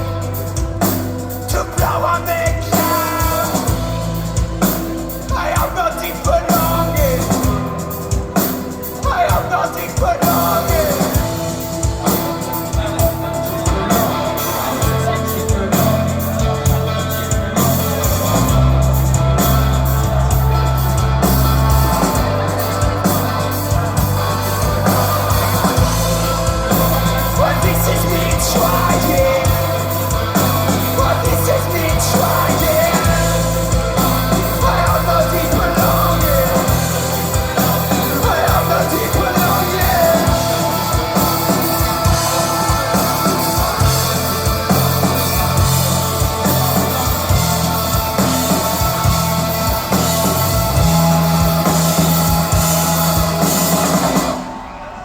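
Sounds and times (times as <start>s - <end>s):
person singing: 0.0s - 54.8s
bass line: 0.0s - 55.0s
drums: 0.0s - 55.0s.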